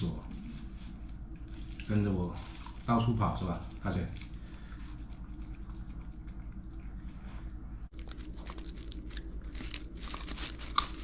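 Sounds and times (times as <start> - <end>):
dog chewing and crunching bones: 0.0 - 11.0
steady low hum: 0.0 - 11.0.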